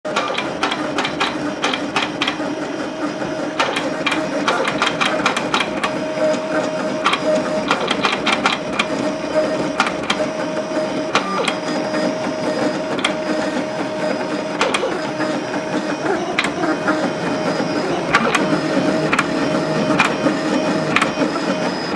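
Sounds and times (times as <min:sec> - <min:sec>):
vinyl cutter motor whine: 0:00.1 - 0:21.9.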